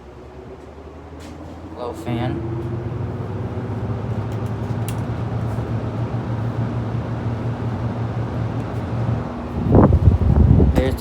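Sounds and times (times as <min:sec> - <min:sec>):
air conditioner motor hum: 0:00.0 - 0:11.0.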